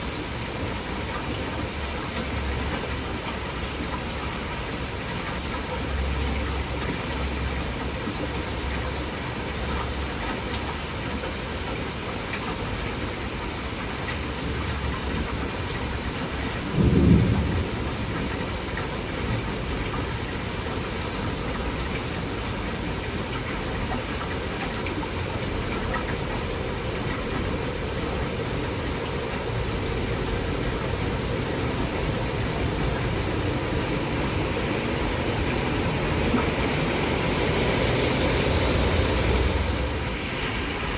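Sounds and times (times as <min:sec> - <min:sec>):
torrential rain falling: 0:00.0 - 0:40.9.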